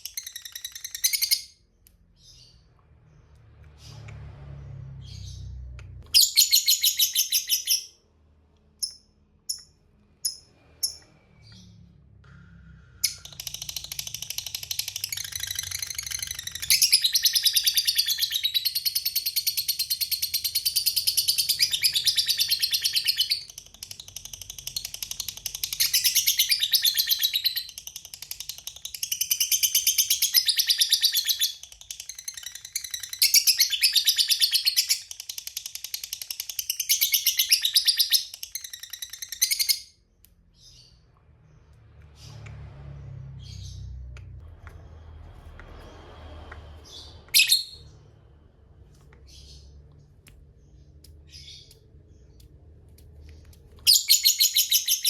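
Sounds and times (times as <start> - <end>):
bird chirps: 0.0 - 4.3, 4.9 - 42.6, 46.4 - 48.2, 48.8 - 55.0.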